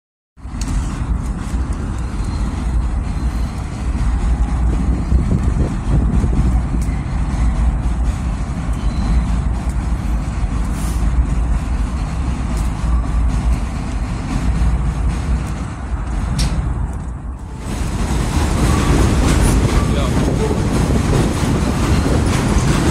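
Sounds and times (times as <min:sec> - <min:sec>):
elevated train rumbling: 0:00.4 - 0:22.9
street traffic: 0:00.4 - 0:22.9.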